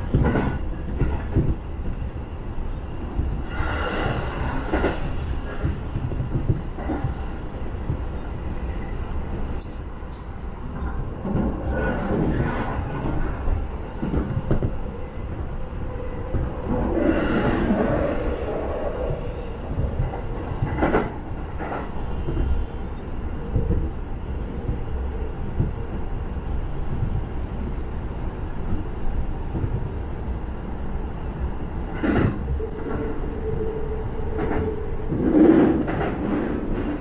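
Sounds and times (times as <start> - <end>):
train rumbling inside carriage: 0.0 - 37.0.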